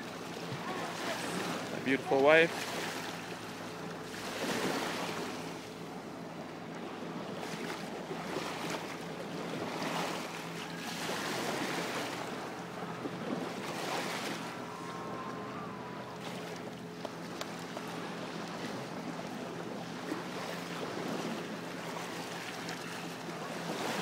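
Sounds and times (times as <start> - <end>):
lake waves lapping on shore: 0.0 - 24.0.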